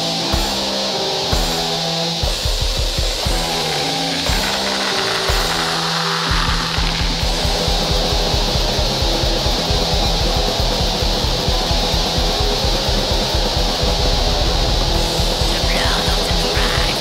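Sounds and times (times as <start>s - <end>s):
distorted guitars: 0.0s - 17.0s
fast drumming: 0.0s - 17.0s.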